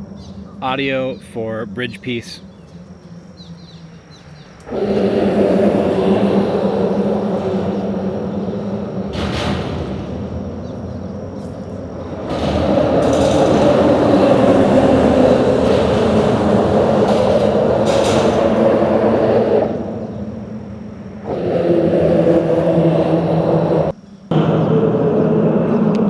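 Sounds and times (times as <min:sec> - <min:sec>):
loud rumble of vehicle noise: 0:00.0 - 0:26.0.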